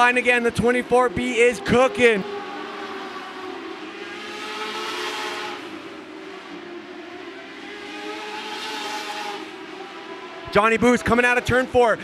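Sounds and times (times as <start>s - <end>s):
race car engines whining: 0.0s - 12.0s.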